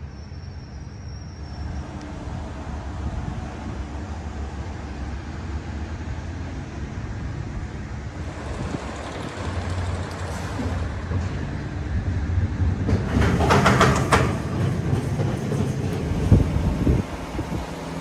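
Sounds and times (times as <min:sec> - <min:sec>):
roller coaster rumbling on track: 0:00.0 - 0:18.0.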